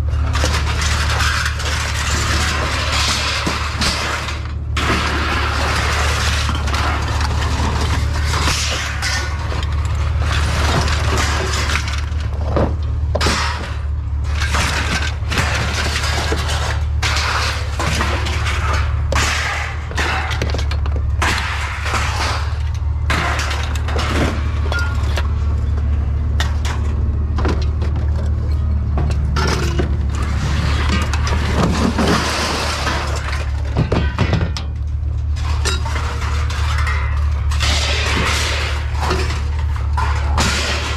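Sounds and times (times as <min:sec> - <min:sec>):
low hum: 0:00.0 - 0:40.9
scrap metal clattering: 0:00.1 - 0:40.9.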